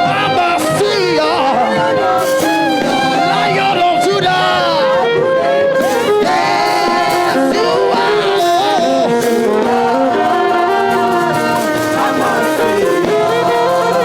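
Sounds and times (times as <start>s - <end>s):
gospel choir singing: 0.0s - 14.0s
instrumental accompaniment: 0.0s - 14.0s.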